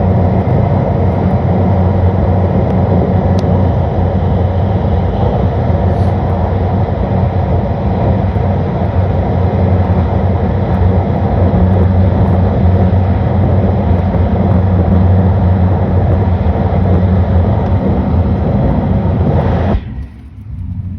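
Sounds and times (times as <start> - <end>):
train running: 0.0 - 20.9.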